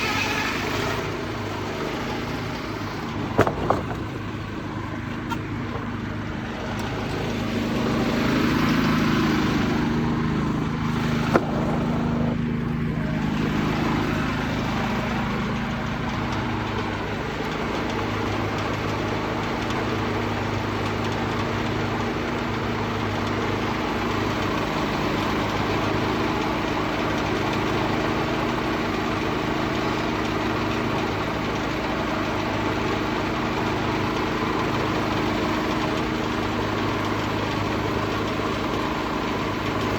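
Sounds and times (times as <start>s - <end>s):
muffled diesel engine running: 0.0s - 39.9s.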